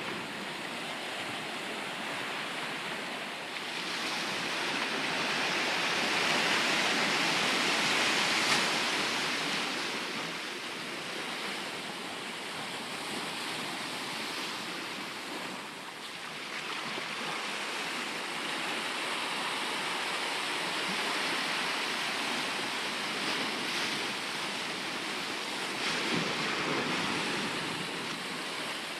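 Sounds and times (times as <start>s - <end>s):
ocean surf washing: 0.0s - 28.9s.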